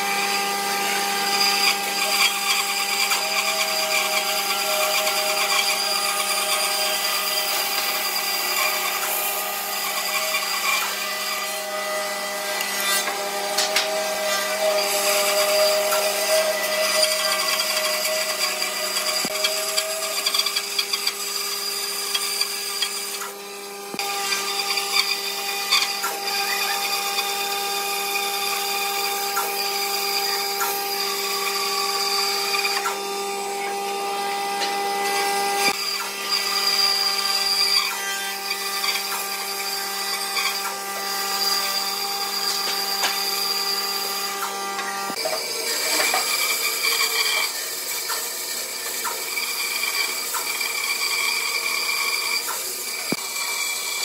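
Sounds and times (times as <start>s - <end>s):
bandsaw motor hum: 0.0s - 54.0s
saw blade rasping through wood: 0.0s - 54.0s.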